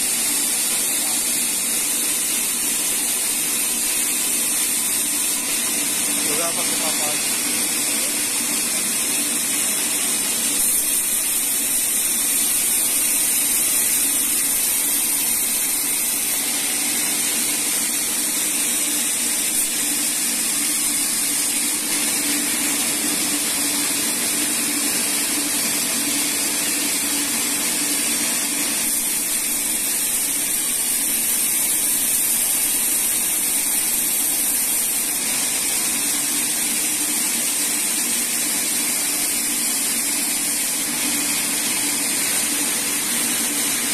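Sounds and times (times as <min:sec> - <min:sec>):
saw blade hissing through wood: 0:00.0 - 0:24.6, 0:25.8 - 0:43.9.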